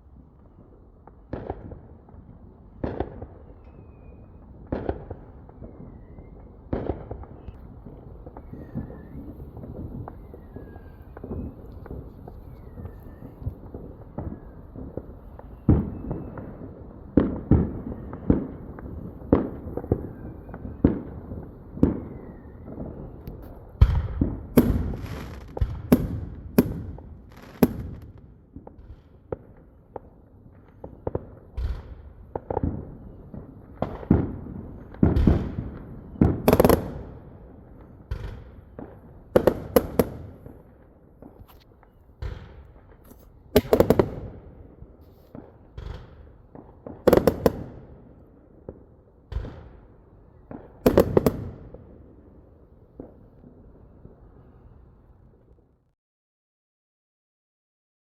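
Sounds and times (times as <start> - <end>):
fireworks bangs and booms: 0.0 - 55.6.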